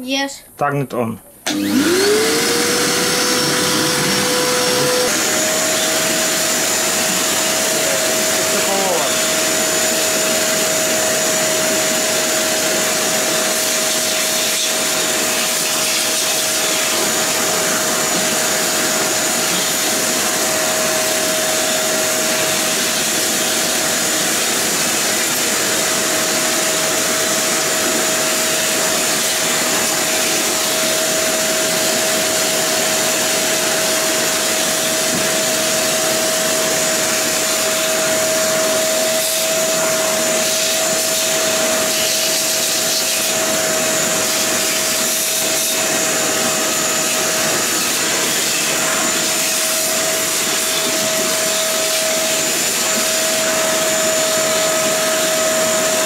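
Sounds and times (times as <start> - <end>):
vacuum cleaner running: 1.4 - 56.0.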